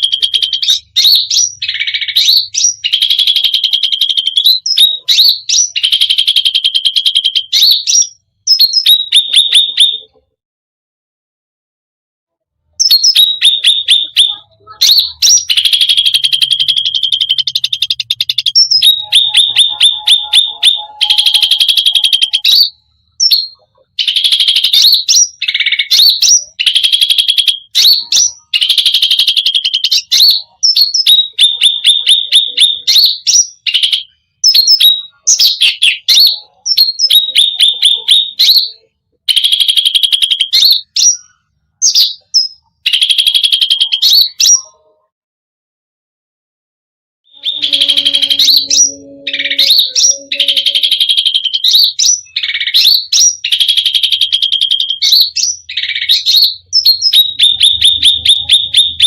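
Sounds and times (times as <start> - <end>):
songbird chattering song: 0.0 - 10.2, 12.8 - 45.0, 47.3 - 59.0.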